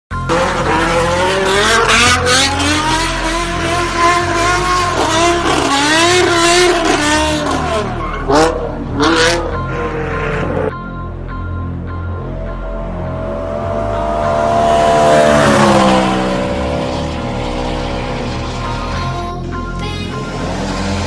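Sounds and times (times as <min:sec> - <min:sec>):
car engine revving hard: 0:00.2 - 0:10.7, 0:13.0 - 0:19.2, 0:20.2 - 0:21.0.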